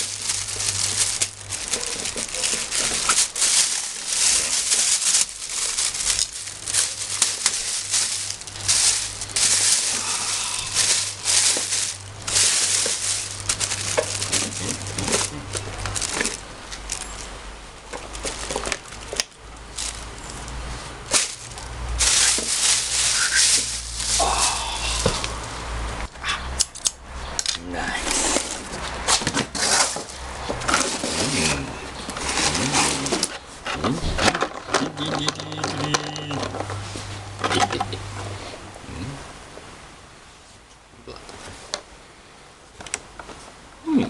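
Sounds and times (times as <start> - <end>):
packaging crinkling and rustling: 0.0 - 25.6, 26.7 - 37.9.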